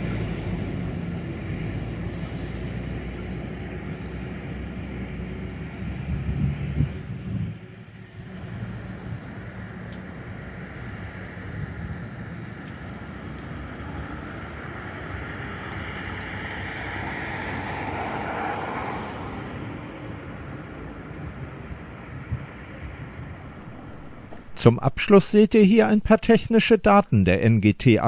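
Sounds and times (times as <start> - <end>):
tram rolling past: 0.0 - 24.8
road traffic: 0.0 - 28.0.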